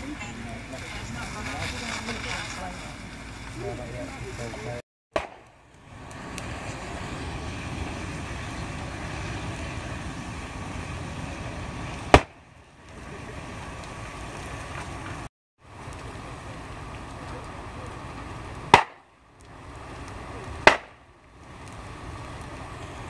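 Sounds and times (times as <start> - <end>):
rushing noise of fire: 0.0 - 23.0.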